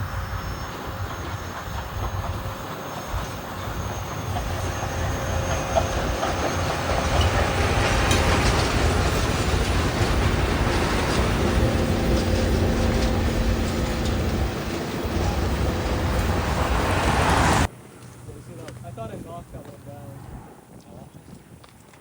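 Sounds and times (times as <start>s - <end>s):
train rumbling past: 0.0s - 20.7s.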